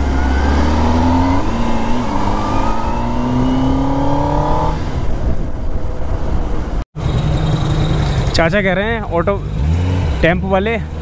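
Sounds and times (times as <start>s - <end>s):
motorcycle engine accelerating: 0.0s - 10.6s
wind and road noise: 0.0s - 11.0s.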